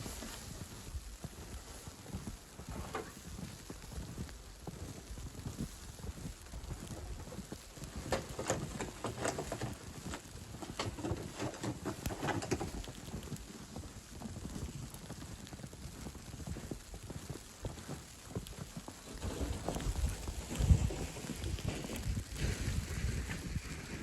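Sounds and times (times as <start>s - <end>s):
footsteps crunching in snow: 0.0s - 24.0s.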